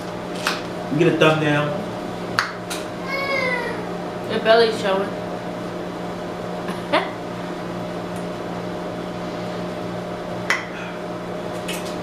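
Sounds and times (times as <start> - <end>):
household appliance humming: 0.0 - 12.0.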